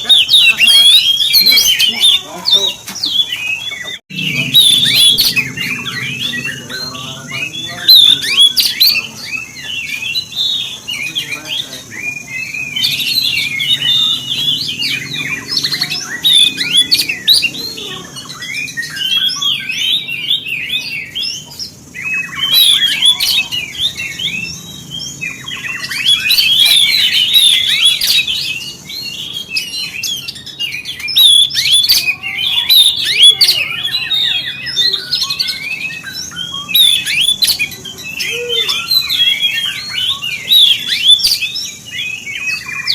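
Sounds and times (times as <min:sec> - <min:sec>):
bird singing chattering phrases: 0:00.0 - 0:42.9.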